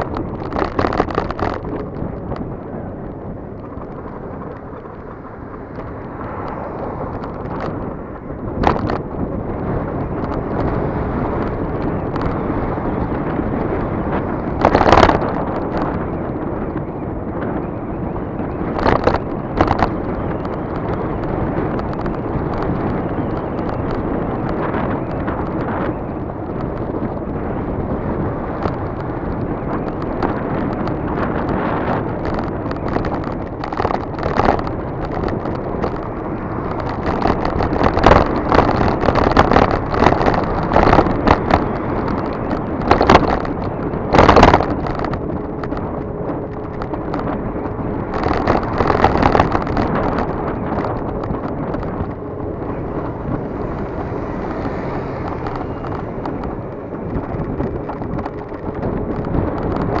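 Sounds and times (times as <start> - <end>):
road noise: 0.0 - 60.0
wind buffeting microphone: 0.0 - 60.0.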